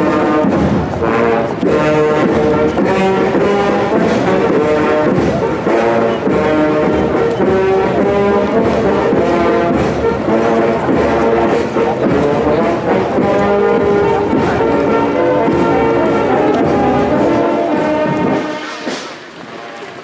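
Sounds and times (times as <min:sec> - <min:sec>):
brass band playing: 0:00.0 - 0:19.9.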